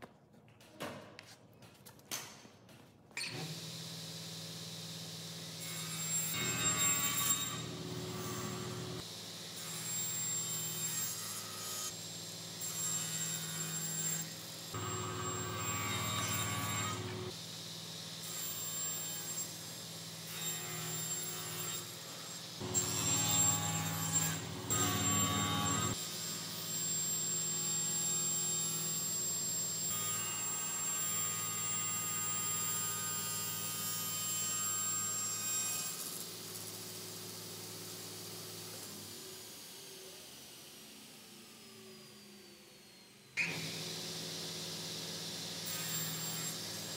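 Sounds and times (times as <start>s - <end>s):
panel saw cutting wooden boards: 3.3s - 39.3s, 43.3s - 46.9s.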